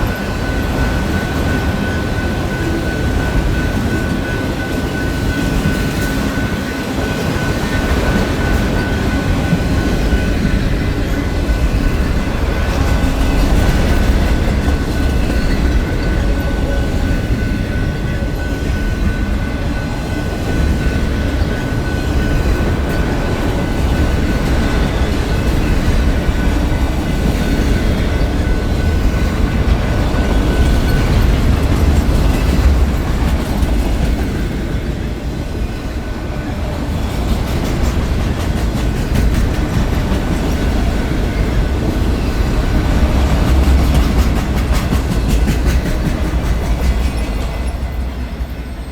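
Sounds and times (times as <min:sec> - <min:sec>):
wheels clacking over rail joints: 0:00.0 - 0:35.4, 0:36.2 - 0:48.6
freight train rumbling past: 0:00.0 - 0:48.9.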